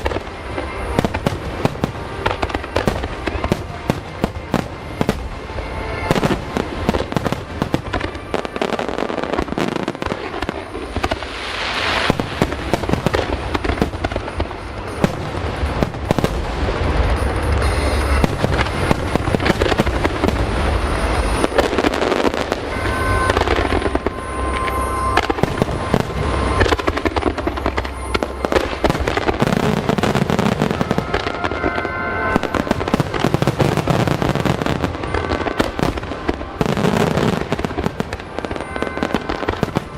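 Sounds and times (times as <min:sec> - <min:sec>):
fireworks shell bursts and crackling: 0:00.0 - 0:39.9.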